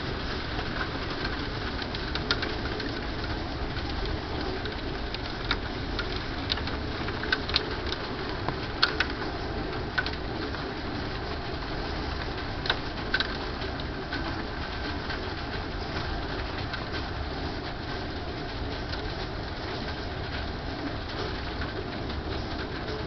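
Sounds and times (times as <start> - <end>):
hailstones clicking: 0.0 - 23.0
rain falling on a deck: 0.0 - 23.0.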